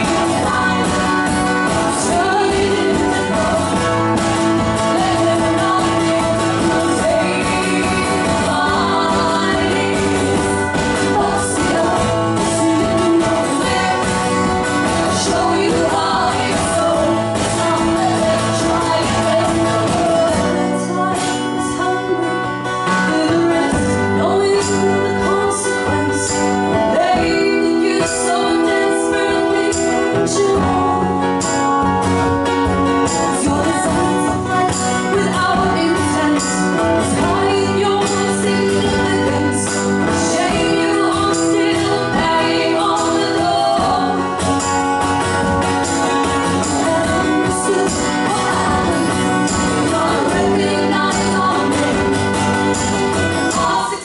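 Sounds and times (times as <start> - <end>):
woman singing: 0.0 - 31.8, 32.9 - 54.0
strummed guitar: 0.0 - 54.0.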